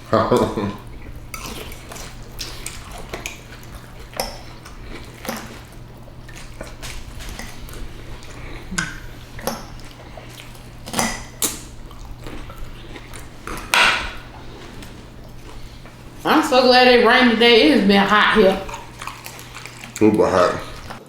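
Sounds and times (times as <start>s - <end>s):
faint low hum: 0.0s - 21.0s
utensils clinking on plates: 0.0s - 21.0s.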